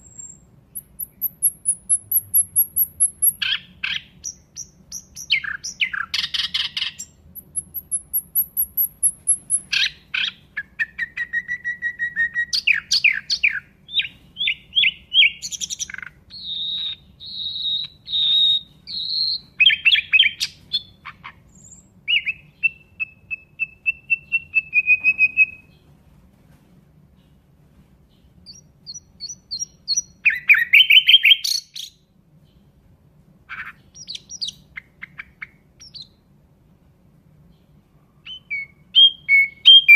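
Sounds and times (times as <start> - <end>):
nightingale singing: 0.0 - 25.9, 28.1 - 32.7, 33.5 - 36.3, 37.4 - 39.9.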